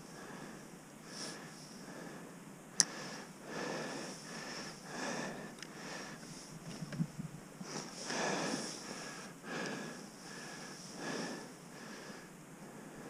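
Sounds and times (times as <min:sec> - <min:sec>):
person breathing and sniffing: 0:00.1 - 0:06.6, 0:07.6 - 0:13.0.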